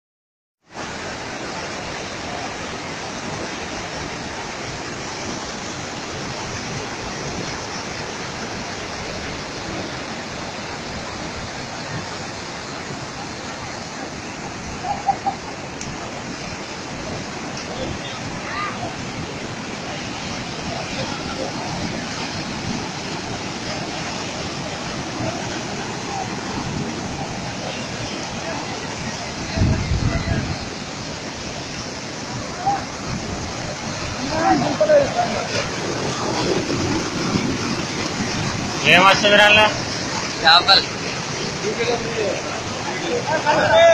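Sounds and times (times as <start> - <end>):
water rushing over a weir: 0.6 - 43.9.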